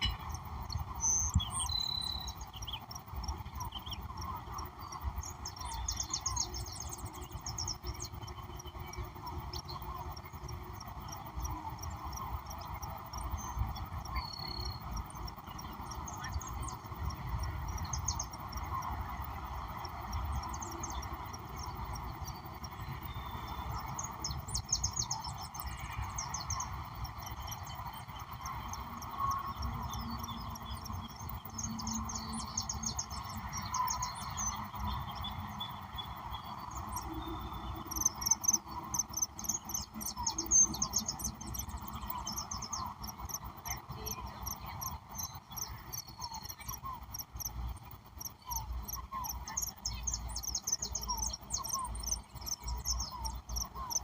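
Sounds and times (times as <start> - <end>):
birds chirping: 0.0 - 54.0
crickets and insects chirping: 0.0 - 54.0.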